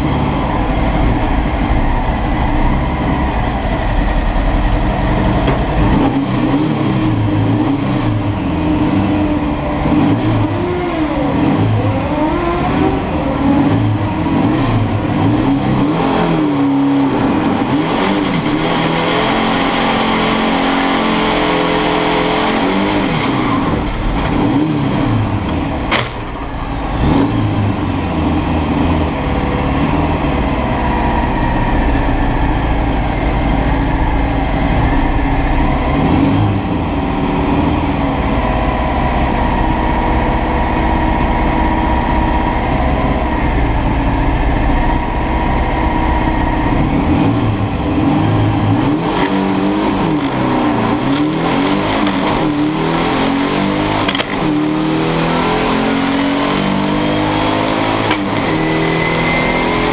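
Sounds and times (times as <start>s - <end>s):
drag car engine revving: 0.0s - 59.9s.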